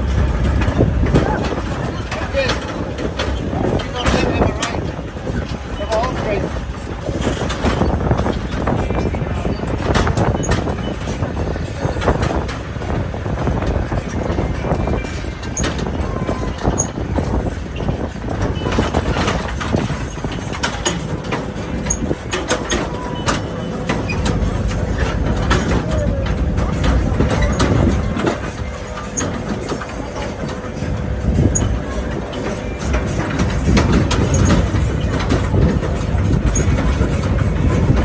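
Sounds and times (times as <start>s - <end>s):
rattles and knocks: 0.0s - 38.0s
tractor engine rumbling: 0.0s - 38.0s.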